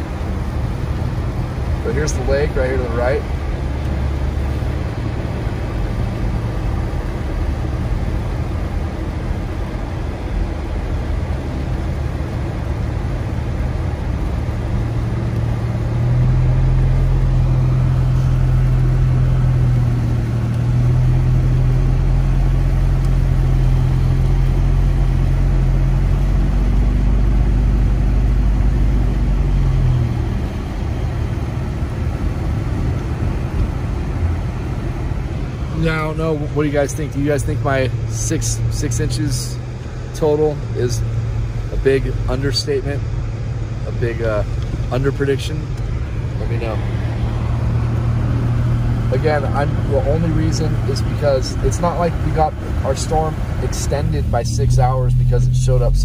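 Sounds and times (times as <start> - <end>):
car engine and tyres on slush: 0.0 - 56.0
steady low hum: 0.0 - 56.0.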